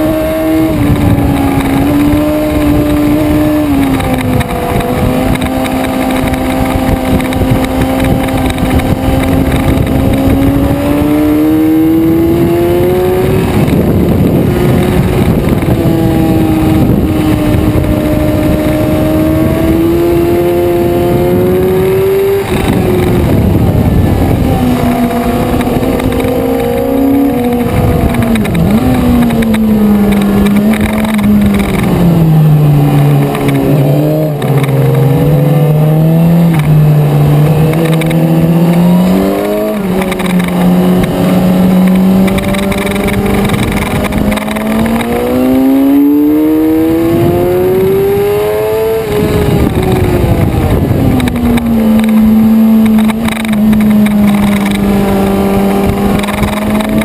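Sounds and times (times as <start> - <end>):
motorcycle engine at high revs: 0.0 - 57.0
wind rush on microphone: 0.0 - 57.0.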